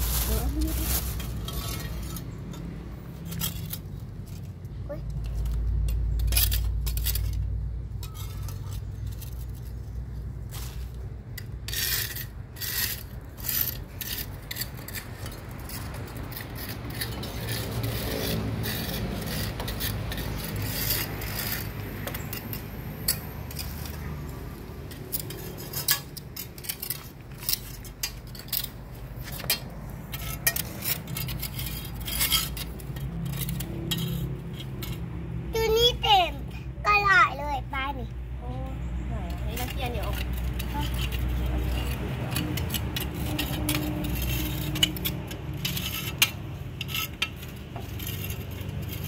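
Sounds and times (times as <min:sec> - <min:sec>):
metal tongs scraping concrete: 0:00.0 - 0:38.1, 0:38.8 - 0:49.0.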